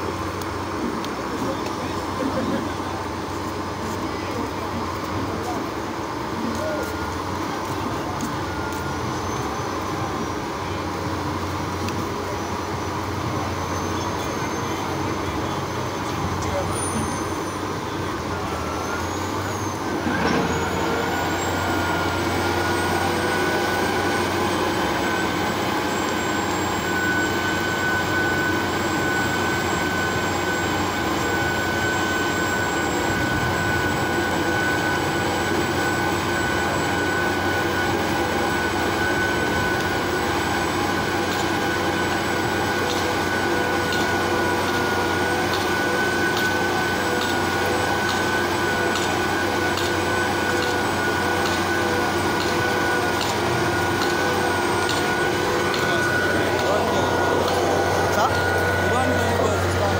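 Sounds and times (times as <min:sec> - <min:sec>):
diesel engine running: 0:00.0 - 0:59.9
high whine rising in pitch: 0:00.0 - 0:59.9.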